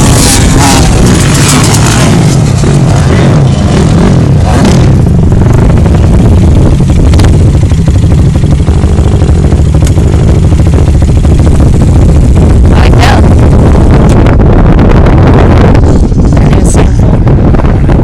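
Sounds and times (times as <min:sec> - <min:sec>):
atv engine under throttle: 0:00.0 - 0:18.0.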